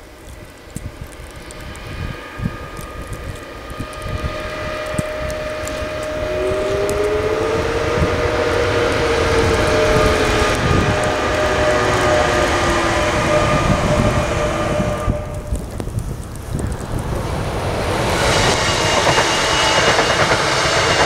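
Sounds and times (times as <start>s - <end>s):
electric locomotive whine: 0.0s - 21.0s
wheels rumbling on rail: 0.0s - 21.0s.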